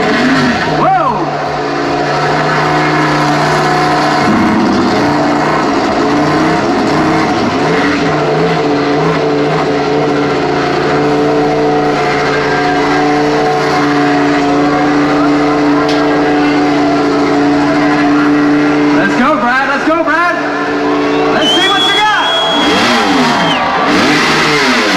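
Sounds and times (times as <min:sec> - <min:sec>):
race bike engine at steady revs: 0:00.0 - 0:24.9.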